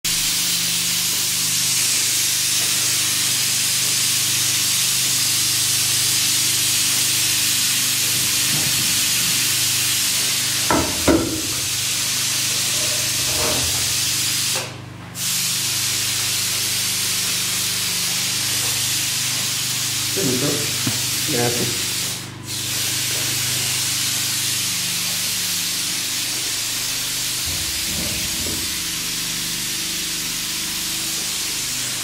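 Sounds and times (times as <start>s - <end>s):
gas stove hissing: 0.1s - 32.0s.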